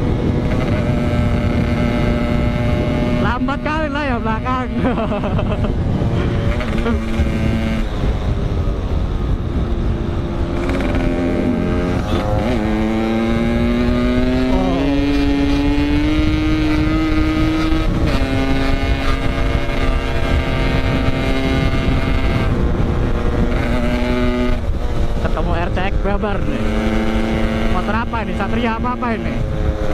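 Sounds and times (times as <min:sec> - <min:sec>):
motorcycle engine accelerating: 0:00.0 - 0:29.9
wind rumbling on microphone: 0:00.0 - 0:29.9.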